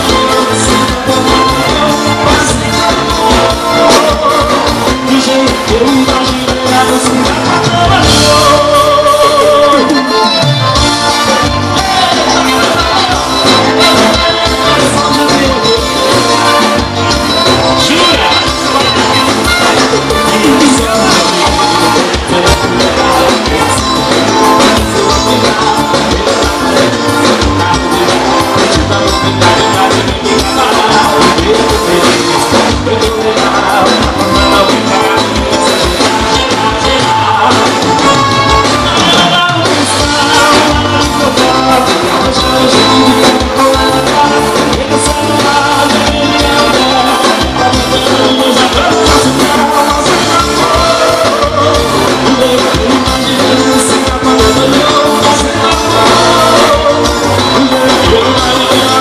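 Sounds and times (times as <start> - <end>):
live dance band playing: 0.0 - 59.0
singers singing: 0.0 - 59.0.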